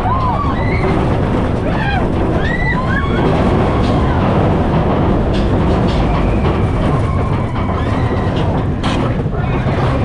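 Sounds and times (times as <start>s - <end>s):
faint clacks: 0.0s - 10.0s
roller coaster rumbling on rails: 0.0s - 10.0s.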